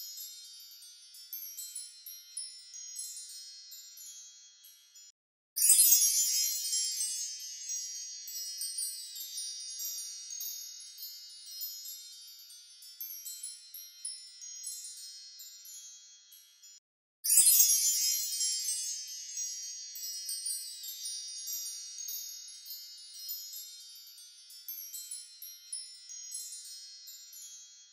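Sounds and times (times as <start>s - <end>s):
shimmering tinkling chimes: 0.0s - 27.9s.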